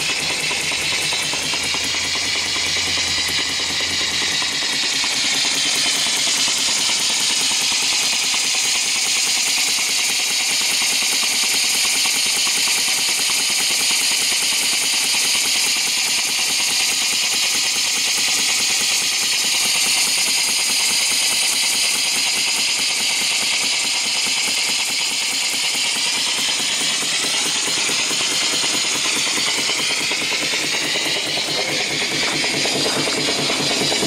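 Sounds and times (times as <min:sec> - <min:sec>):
steam engine chuffing and hissing: 0:00.0 - 0:34.0.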